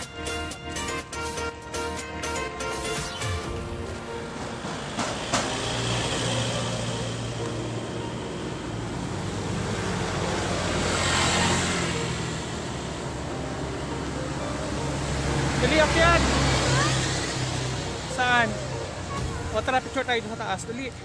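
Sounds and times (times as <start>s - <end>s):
passing cars: 0.0s - 21.0s.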